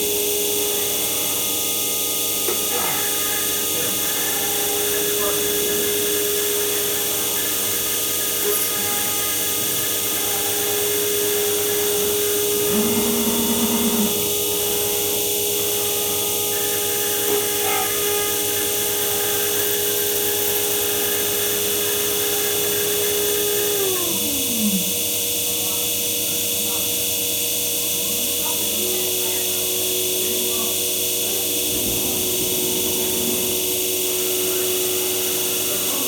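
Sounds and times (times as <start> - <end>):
lower machine tone: 0.0 - 26.8, 28.1 - 36.0
machine spindle whine: 0.0 - 36.0.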